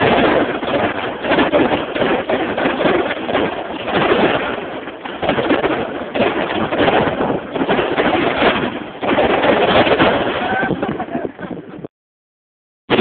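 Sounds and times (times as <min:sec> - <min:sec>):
fireworks crackling and popping: 0:00.0 - 0:11.8.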